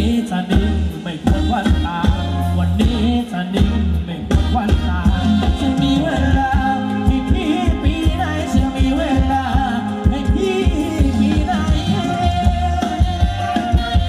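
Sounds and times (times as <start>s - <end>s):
heavy bass: 0.0s - 14.0s
person singing with ornamented lines: 0.0s - 14.0s
steady drum beat: 0.0s - 14.0s.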